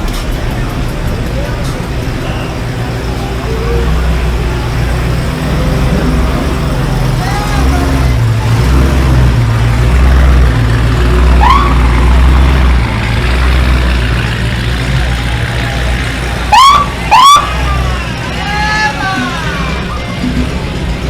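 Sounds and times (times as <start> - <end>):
car engines rumbling: 0.0 - 21.0.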